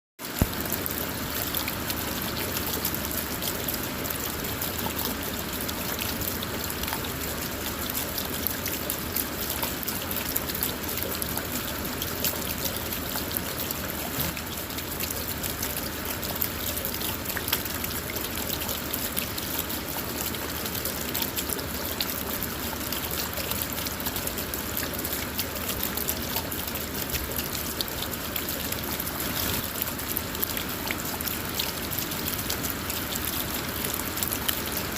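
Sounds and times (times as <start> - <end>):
rain falling on a car: 0.2 - 34.9.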